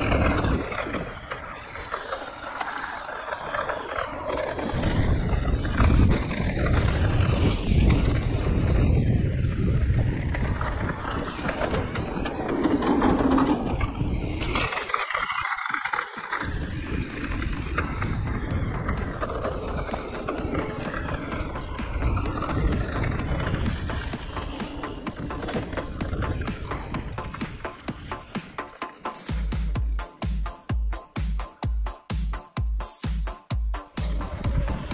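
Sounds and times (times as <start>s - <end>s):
bike rattling and knocking: 0.0s - 31.8s
tyres rumbling over ground: 0.0s - 32.0s, 33.3s - 34.9s.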